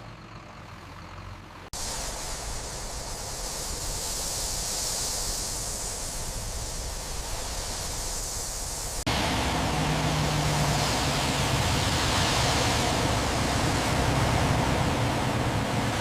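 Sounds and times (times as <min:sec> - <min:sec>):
wind and road noise hiss: 0:00.7 - 0:16.0.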